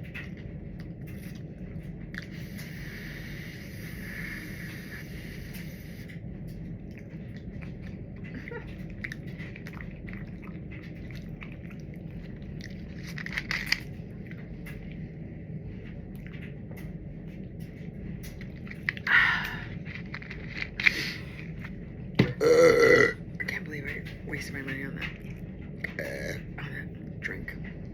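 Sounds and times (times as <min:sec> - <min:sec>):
wet chewing and smacking: 0:00.0 - 0:03.1, 0:04.4 - 0:27.9
steady low hum: 0:00.0 - 0:27.9.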